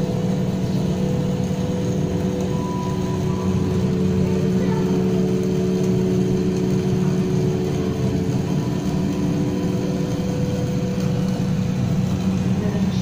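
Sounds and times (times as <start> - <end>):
held tones: 0.0 - 13.0
low mechanical hum: 0.0 - 13.0.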